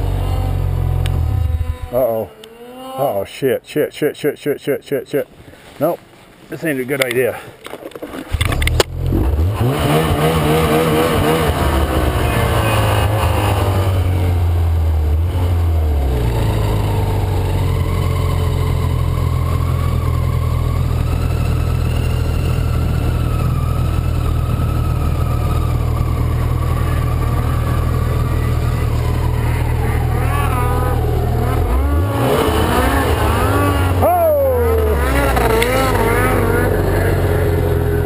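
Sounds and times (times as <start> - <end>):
snowmobile engine under load: 0.0 - 3.1, 7.9 - 38.0.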